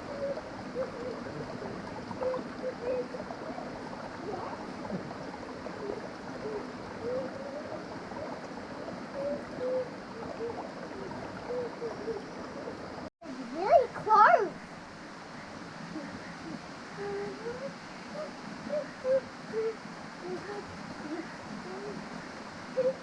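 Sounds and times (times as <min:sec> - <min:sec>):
creek water over rocks: 0:00.0 - 0:23.0.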